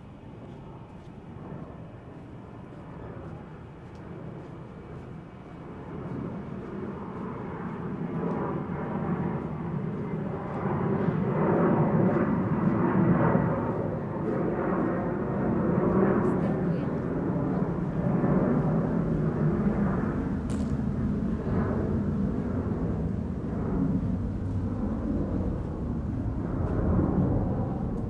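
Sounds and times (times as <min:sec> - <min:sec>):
street background hum: 0:00.0 - 0:28.0.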